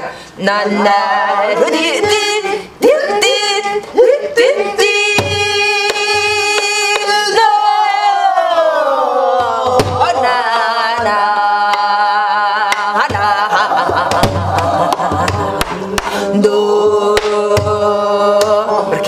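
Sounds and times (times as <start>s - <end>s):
woman singing long tones: 0.0s - 19.0s.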